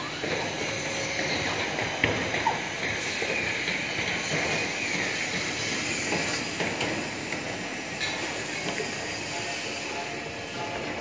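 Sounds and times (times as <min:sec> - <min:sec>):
heavy construction machinery running: 0:00.0 - 0:11.0.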